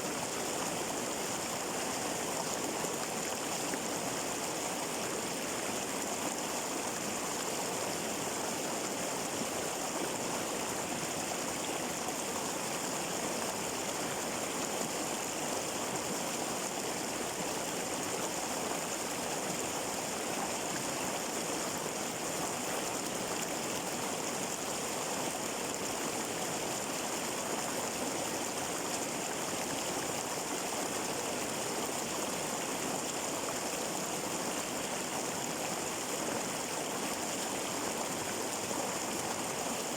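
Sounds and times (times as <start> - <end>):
water flowing in a stream: 0.0 - 39.9.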